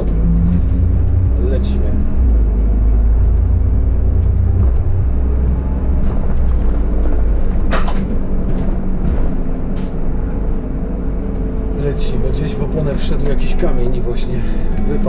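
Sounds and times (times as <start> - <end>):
bus engine pulling away: 0.0 - 15.0.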